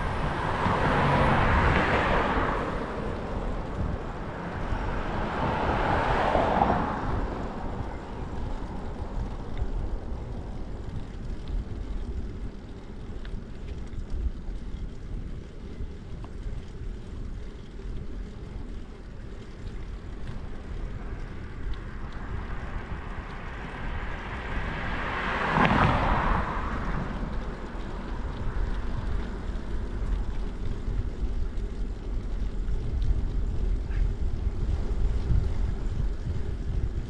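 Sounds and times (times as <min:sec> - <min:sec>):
passing vehicle: 0:00.0 - 0:37.0
wind buffeting microphone: 0:00.0 - 0:37.0.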